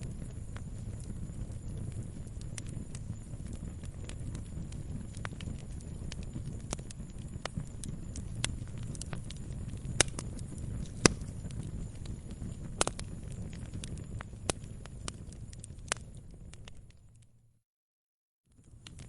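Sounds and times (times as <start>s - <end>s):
sharp pops of fire: 0.0s - 17.2s
wood fire crackling: 0.0s - 17.4s, 18.5s - 19.0s.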